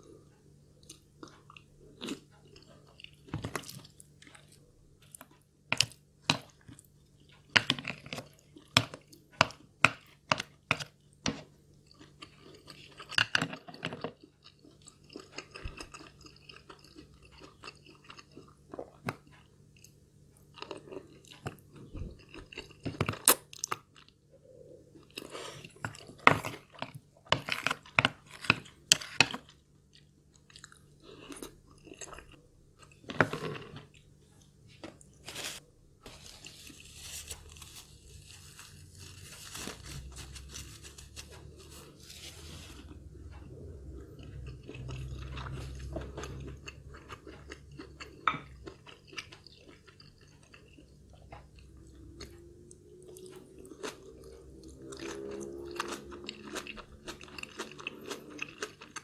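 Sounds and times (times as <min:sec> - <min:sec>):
person chewing and crunching food: 0:00.0 - 0:59.0.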